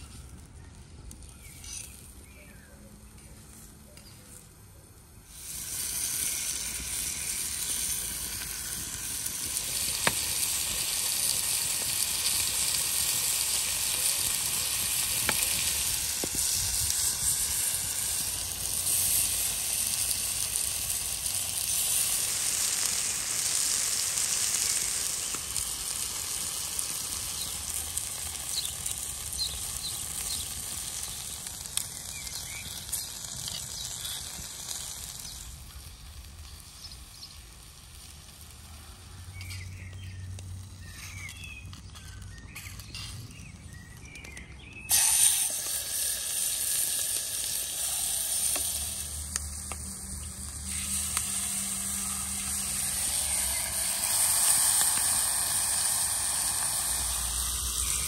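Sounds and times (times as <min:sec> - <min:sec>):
food sizzling on hot stone: 0:00.0 - 0:02.7, 0:04.7 - 0:58.0.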